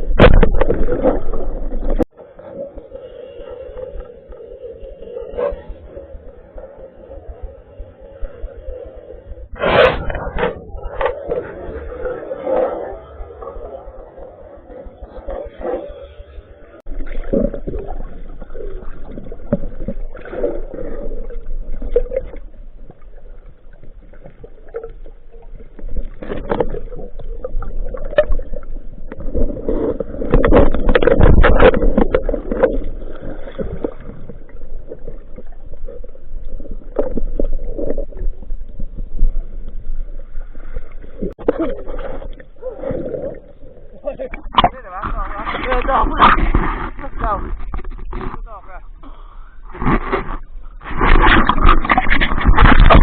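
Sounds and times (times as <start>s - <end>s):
muffled water sloshing and gurgling: 0.0s - 53.0s.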